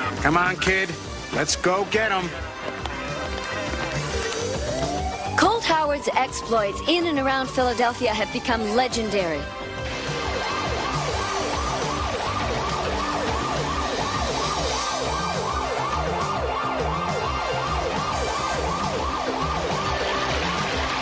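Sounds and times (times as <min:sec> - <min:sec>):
police siren yelping: 0:03.6 - 0:21.0.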